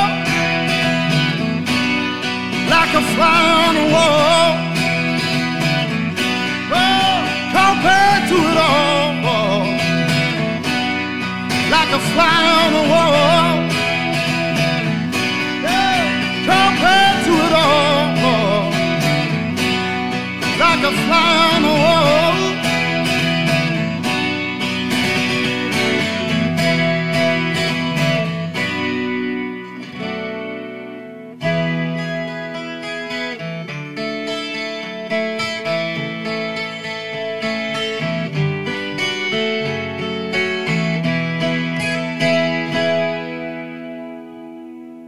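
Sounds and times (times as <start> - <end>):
acoustic guitar playing: 0.0 - 45.0.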